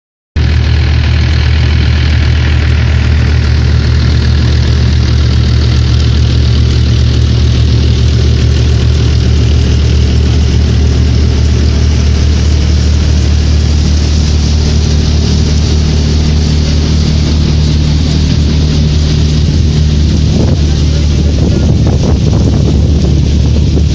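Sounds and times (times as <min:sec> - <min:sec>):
threshing machine rushing: 0:00.4 - 0:23.9
tractor diesel engine humming: 0:00.4 - 0:23.9.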